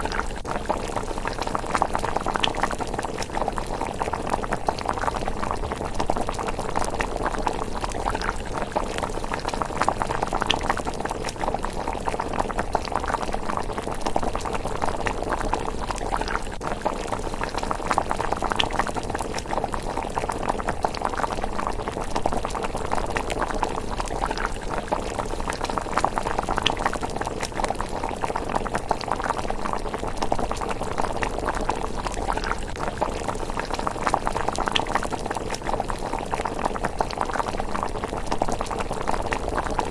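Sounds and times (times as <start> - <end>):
porridge bubbling in a pot: 0.0 - 39.9.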